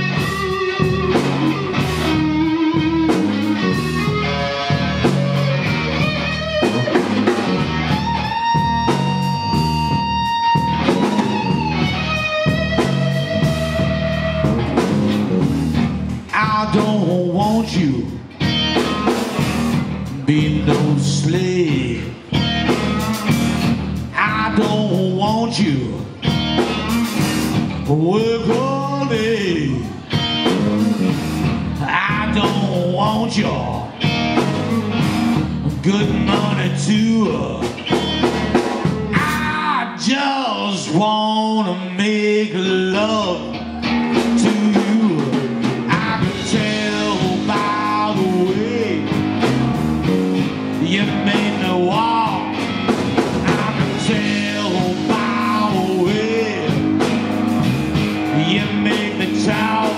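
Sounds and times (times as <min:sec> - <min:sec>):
electric guitar bending notes: 0:00.0 - 0:40.1, 0:42.6 - 0:59.9
electric blues band playing: 0:00.0 - 0:59.9.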